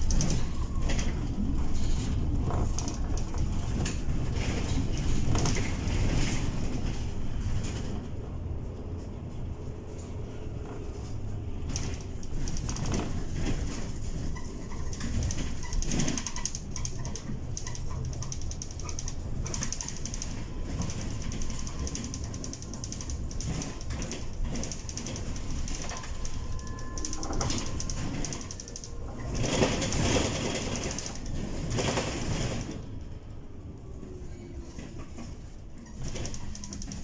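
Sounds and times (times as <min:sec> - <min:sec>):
bus road rumble: 0:00.0 - 0:37.0.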